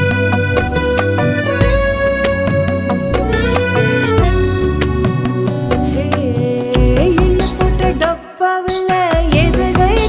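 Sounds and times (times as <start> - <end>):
indian-style melody over drone: 0.0 - 10.0.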